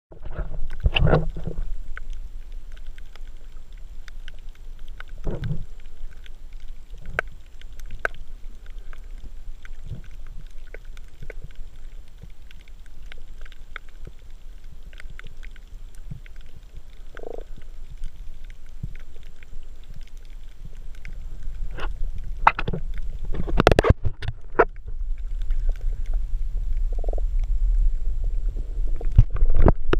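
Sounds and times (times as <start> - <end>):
sharp clicks and pops: 0.1 - 27.7, 28.9 - 29.9
underwater water rumble: 0.1 - 29.9.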